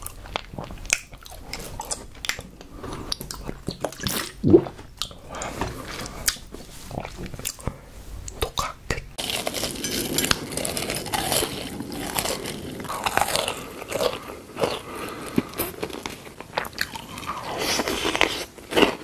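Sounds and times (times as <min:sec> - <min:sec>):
crunching and chewing food: 0:00.0 - 0:19.0.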